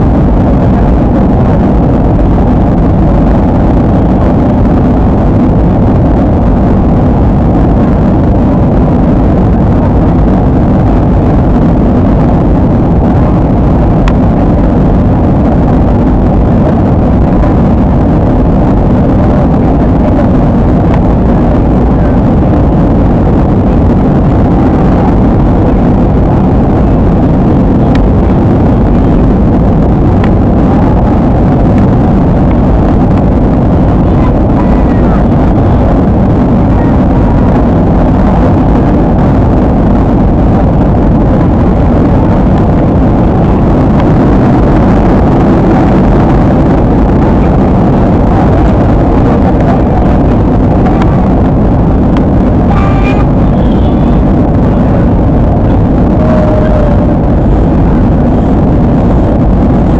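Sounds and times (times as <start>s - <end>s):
airliner cabin noise: 0.0s - 59.9s.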